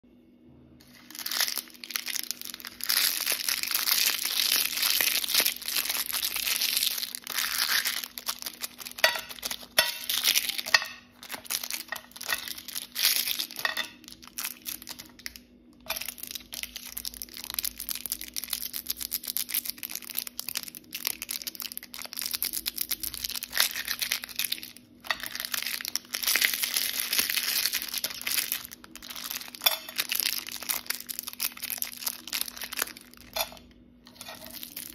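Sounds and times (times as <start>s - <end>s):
plastic wrappers crinkling: 0.8s - 34.9s.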